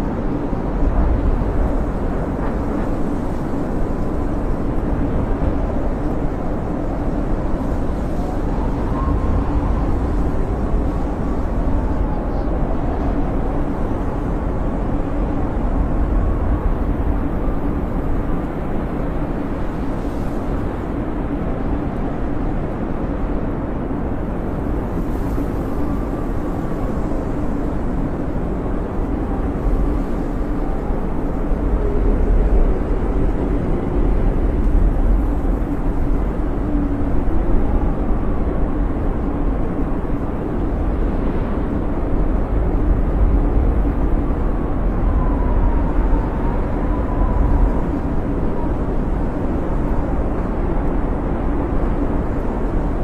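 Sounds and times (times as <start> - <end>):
snowstorm wind whistling: 0.0 - 53.0.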